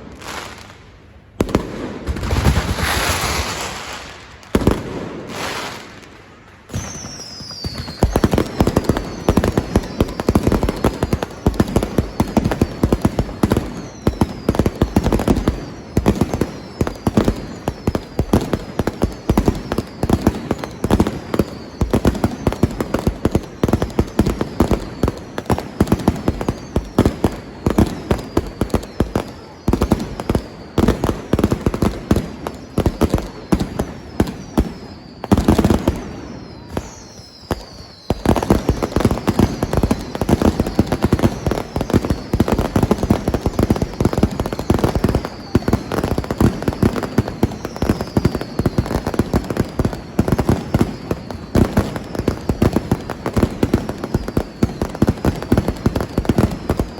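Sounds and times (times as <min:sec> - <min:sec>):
firecrackers crackling: 0:00.0 - 0:56.9
whistling fireworks: 0:00.0 - 0:56.9
loud firework blast: 0:01.4 - 0:48.7.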